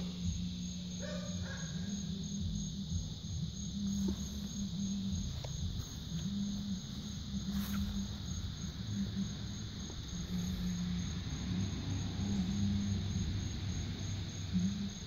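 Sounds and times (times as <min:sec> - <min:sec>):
low hum: 0:00.0 - 0:15.0
night insects trilling: 0:00.0 - 0:15.0.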